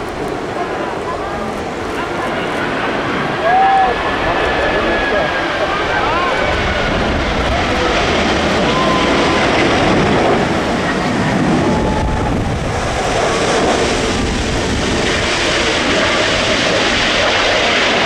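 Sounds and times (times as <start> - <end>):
gusty wind noise on microphone: 0.0 - 18.0
jet engines running: 0.0 - 18.0.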